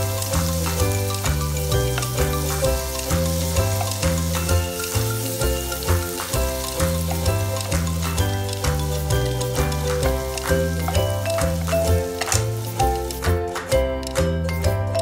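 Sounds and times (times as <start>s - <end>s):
wooden spatula stirring: 0.0s - 13.2s
butter sizzling in a pan: 0.0s - 14.1s
background music with beat: 0.0s - 15.0s.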